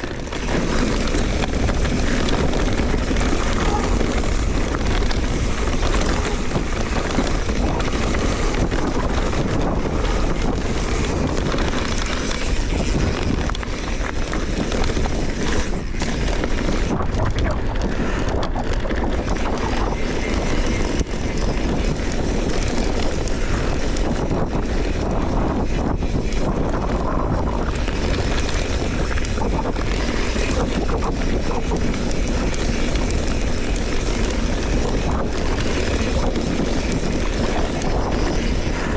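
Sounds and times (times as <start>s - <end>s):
bicycle tyre noise: 0.0s - 38.9s
bike knocks and rattles: 0.0s - 38.9s
wind rushing over microphone: 0.0s - 38.9s.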